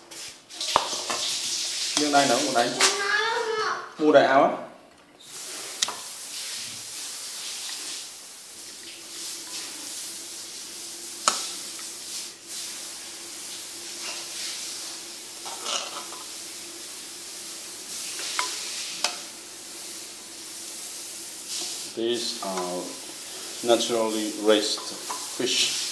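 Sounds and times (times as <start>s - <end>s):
steady hiss: 0.0s - 3.7s, 5.2s - 25.9s.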